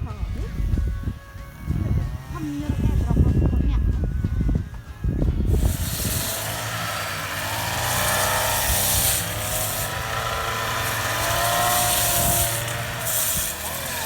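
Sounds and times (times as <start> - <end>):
brush cutter engine running: 1.5 - 14.0.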